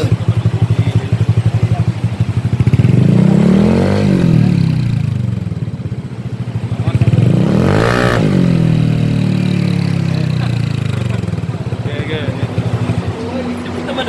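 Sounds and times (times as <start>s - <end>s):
small motorcycle idling and revving: 0.0s - 14.0s.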